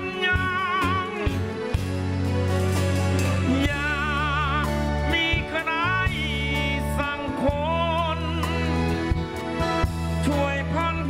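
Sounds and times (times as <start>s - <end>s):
live band playing slow song: 0.0s - 11.0s.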